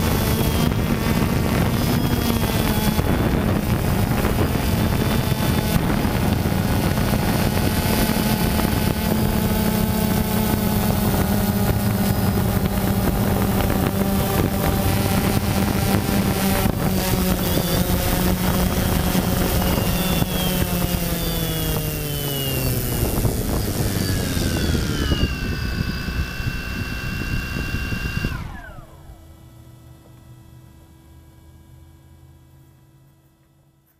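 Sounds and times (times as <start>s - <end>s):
drone propellers buzzing: 0.0s - 30.3s.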